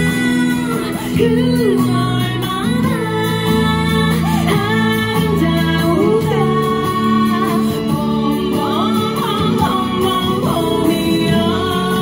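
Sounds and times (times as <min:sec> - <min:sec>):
woman singing into microphone: 0:00.0 - 0:12.0.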